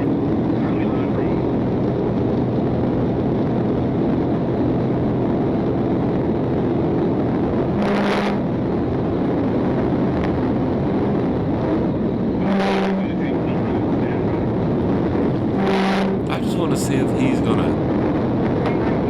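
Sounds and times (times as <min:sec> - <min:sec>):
road noise: 0:00.0 - 0:18.6.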